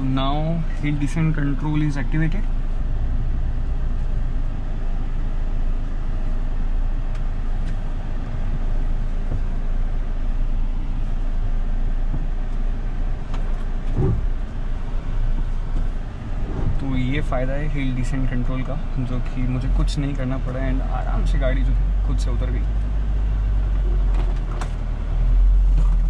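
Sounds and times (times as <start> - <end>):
engine and tyres rumbling on dirt: 0.0 - 26.0.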